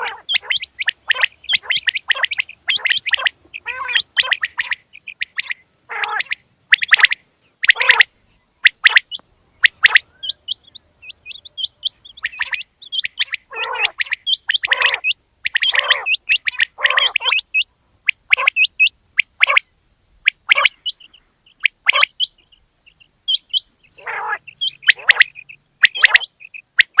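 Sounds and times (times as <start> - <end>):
quail calling: 0.0 - 27.0.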